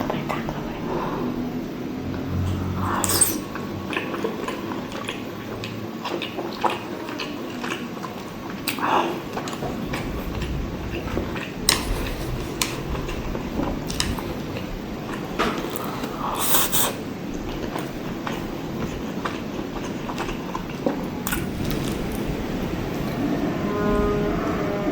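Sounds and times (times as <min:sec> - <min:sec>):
wet chewing sounds: 0:02.1 - 0:23.2.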